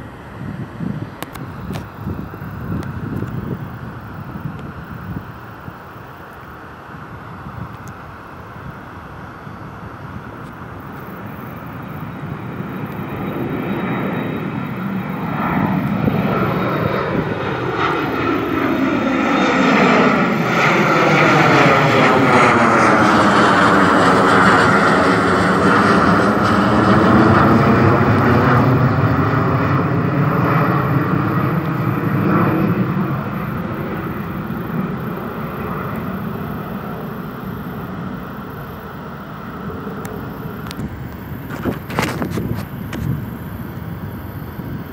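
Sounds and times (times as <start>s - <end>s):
airliner passing by: 0.0s - 44.9s.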